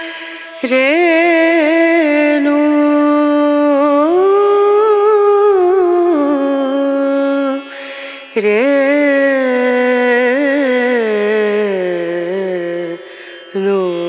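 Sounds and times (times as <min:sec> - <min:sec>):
person singing ornamented notes: 0:00.0 - 0:14.0.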